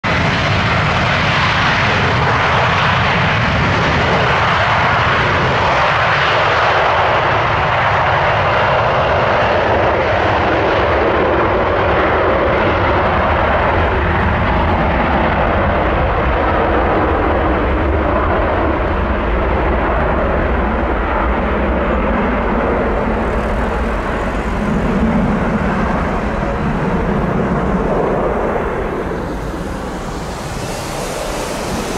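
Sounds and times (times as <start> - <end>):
jet engine roar at takeoff: 0.0 - 31.9.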